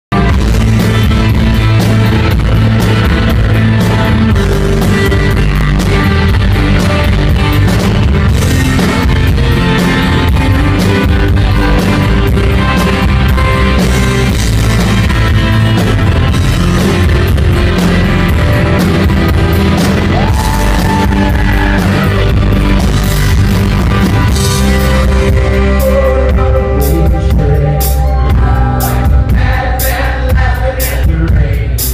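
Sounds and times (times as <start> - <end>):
electric guitar: 0.1 - 31.5
drums: 0.1 - 31.9
rock band playing: 0.1 - 31.9.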